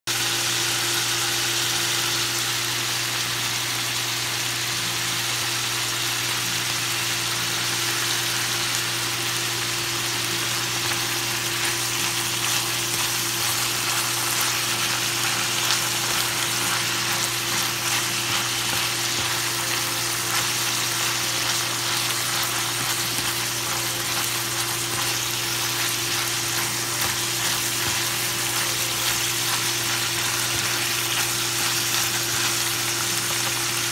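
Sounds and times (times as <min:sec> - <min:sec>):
food sizzling in a pan: 0:00.1 - 0:33.9.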